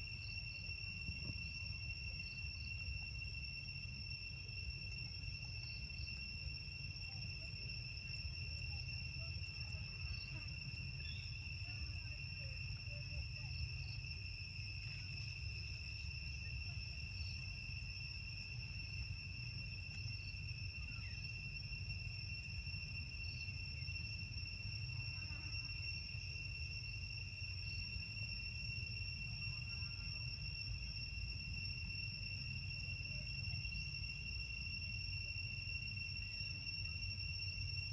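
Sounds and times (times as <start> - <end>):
high-pitched insect drone: 0.0 - 37.9
low steady rumble: 0.0 - 37.9.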